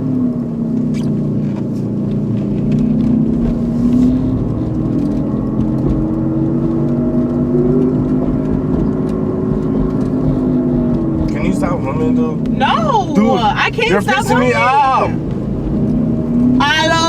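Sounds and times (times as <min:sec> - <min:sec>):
car cabin road and engine noise: 0:00.0 - 0:17.0.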